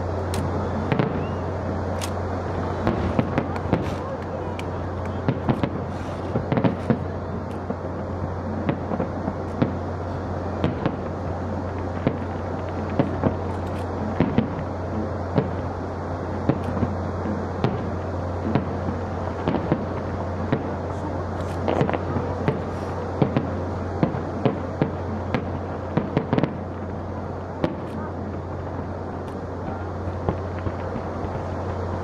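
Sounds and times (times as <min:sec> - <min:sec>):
steady low background noise: 0:00.0 - 0:32.0
fireworks bangs: 0:00.3 - 0:32.0.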